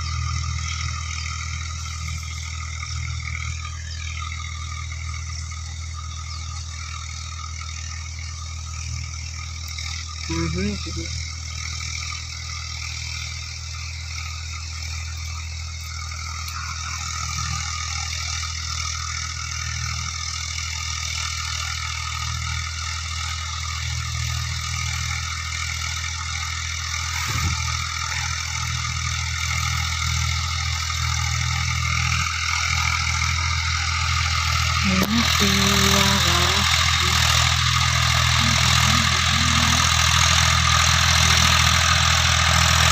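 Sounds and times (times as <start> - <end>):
old tractor engine running: 0.0 - 42.9.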